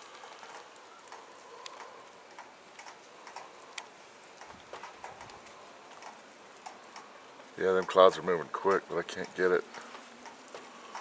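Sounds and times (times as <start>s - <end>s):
raindrops ticking on hard surfaces: 0.0s - 11.0s
wind and rain hiss: 0.0s - 11.0s.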